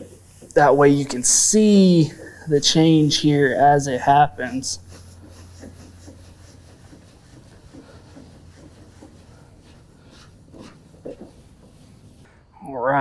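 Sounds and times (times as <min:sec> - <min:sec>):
cloth rubbing on plastic: 0:00.0 - 0:12.3.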